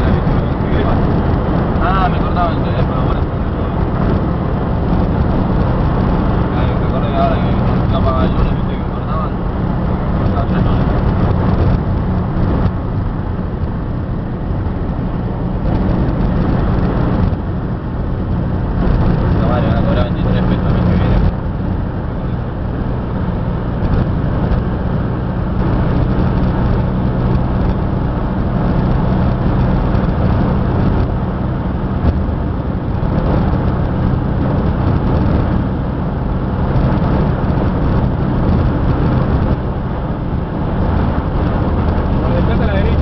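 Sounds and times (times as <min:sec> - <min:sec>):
road and wind noise: 0:00.0 - 0:43.0
vehicle engine drone: 0:00.0 - 0:43.0.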